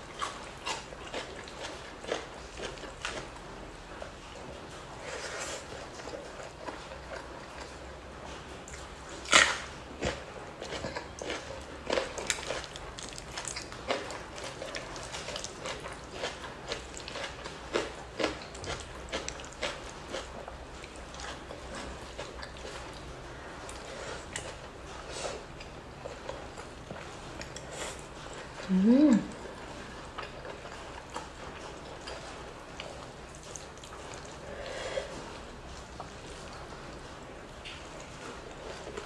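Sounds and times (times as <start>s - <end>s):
chewing food: 0.0s - 39.0s.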